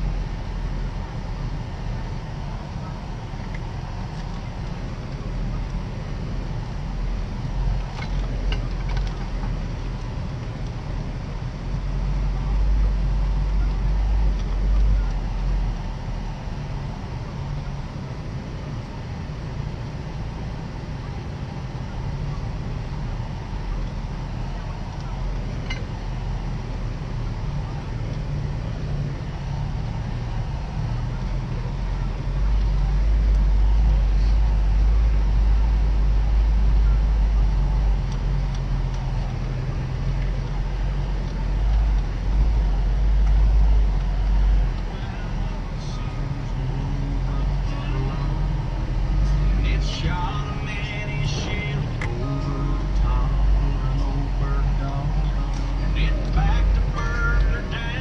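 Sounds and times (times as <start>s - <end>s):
vehicle engine and tyres rumbling: 0.0s - 58.0s.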